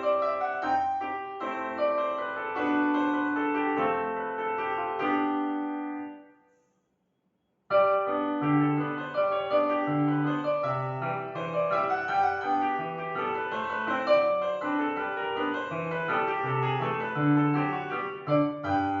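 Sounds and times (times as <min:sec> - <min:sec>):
piano music: 0:00.0 - 0:06.4, 0:07.7 - 0:19.0.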